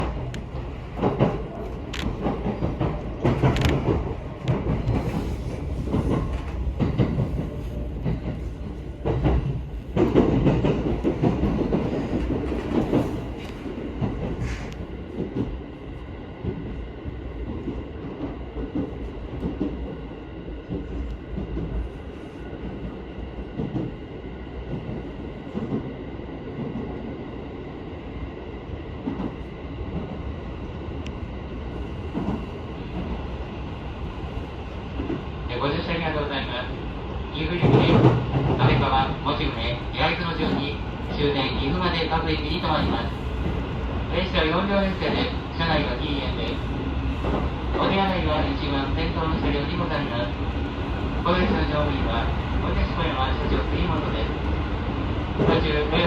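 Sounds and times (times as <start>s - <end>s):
train cabin rumble: 0.0s - 56.0s.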